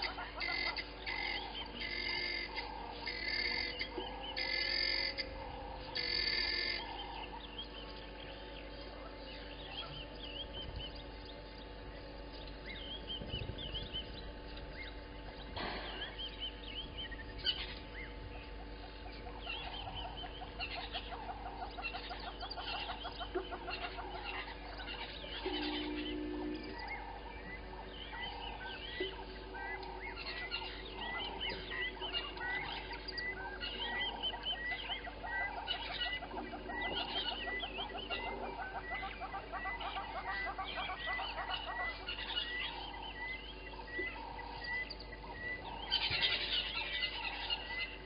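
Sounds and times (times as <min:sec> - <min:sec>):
low bird call: 0:00.0 - 0:48.0
rapid evenly spaced pulses: 0:00.0 - 0:48.0
wild birds chirping and calling: 0:00.0 - 0:48.0.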